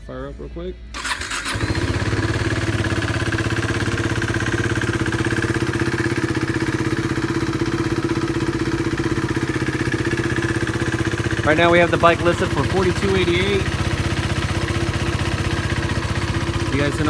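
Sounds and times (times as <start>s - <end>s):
motorcycle engine starting and idling: 0.9s - 17.0s.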